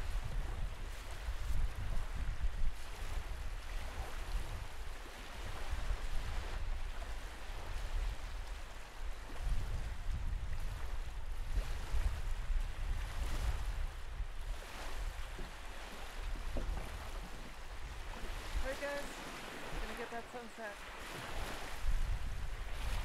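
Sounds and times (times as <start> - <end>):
waves lapping on shore: 0.0 - 23.0
wind buffeting microphone: 0.0 - 23.0.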